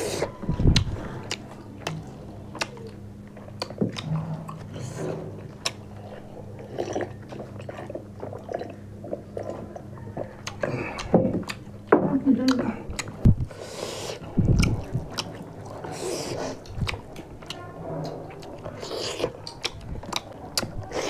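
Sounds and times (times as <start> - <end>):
chewing and lip smacking: 0.0 - 11.8, 12.4 - 21.0
low steady hum: 0.0 - 21.0.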